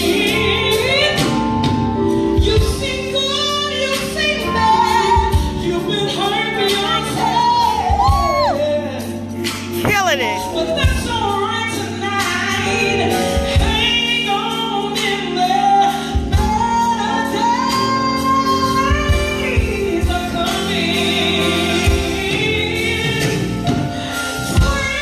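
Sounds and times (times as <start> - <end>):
woman singing gospel: 0.0 - 25.0.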